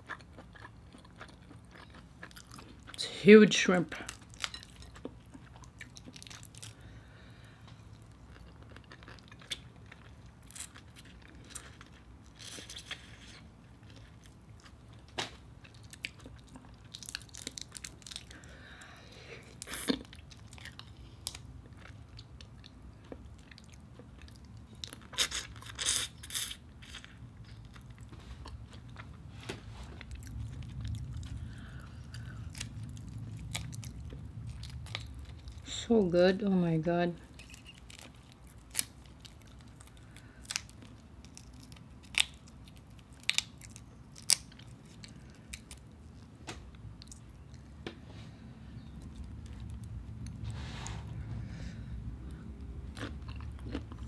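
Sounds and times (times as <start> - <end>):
chewing and crunching shrimp: 0.0 - 35.7, 37.2 - 47.7, 48.8 - 54.0.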